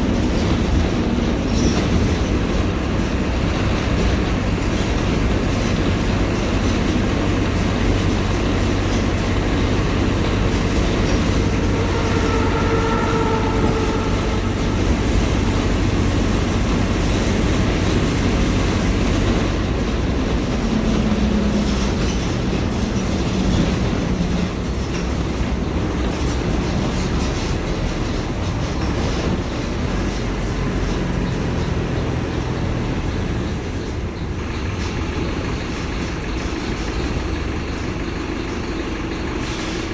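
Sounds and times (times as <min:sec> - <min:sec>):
bus engine droning: 0:00.0 - 0:39.9
road rumble: 0:00.0 - 0:39.9.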